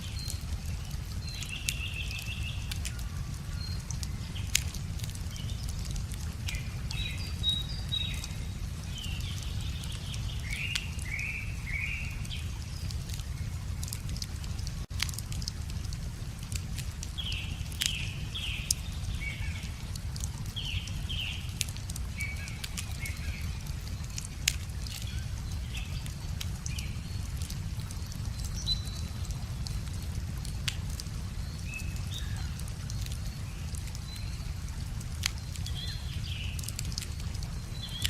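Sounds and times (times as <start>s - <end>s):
songbirds chirping: 0.0s - 38.0s
wood fire crackling and popping: 0.0s - 38.0s.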